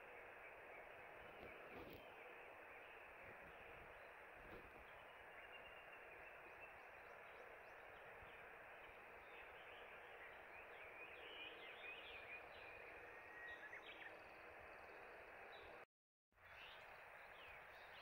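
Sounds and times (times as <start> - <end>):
faint outdoor hiss: 0.0 - 15.8, 16.4 - 18.0.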